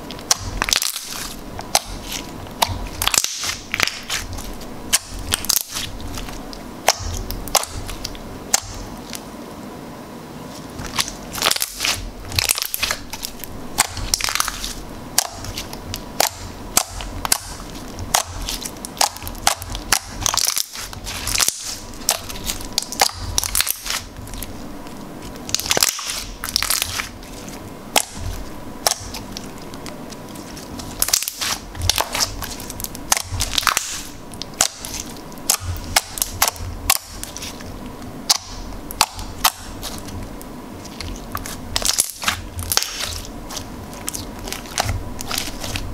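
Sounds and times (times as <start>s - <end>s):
wet slime squishing: 0.0s - 9.3s, 10.5s - 45.9s.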